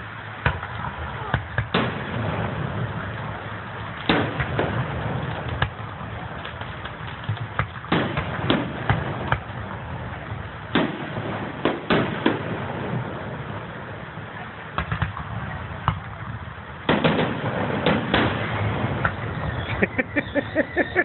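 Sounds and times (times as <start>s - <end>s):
fireworks bangs and pops: 0.0s - 21.0s
steady low rumble: 0.0s - 21.0s.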